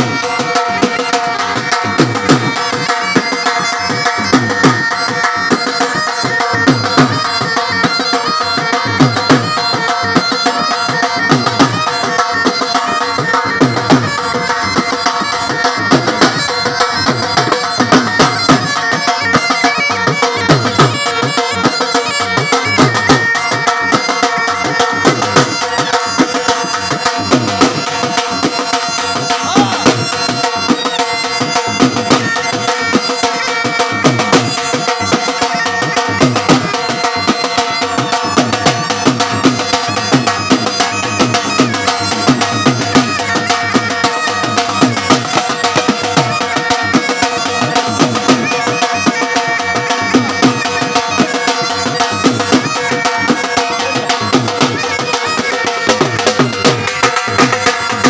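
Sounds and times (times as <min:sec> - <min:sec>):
bagpipes playing folk tune: 0:00.0 - 0:58.0
drum beating: 0:00.0 - 0:58.0.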